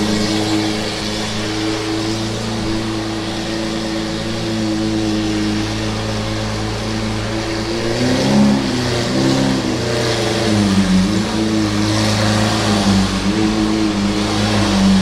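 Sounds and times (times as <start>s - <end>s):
car engine idling with throttle blips: 0.0s - 15.0s.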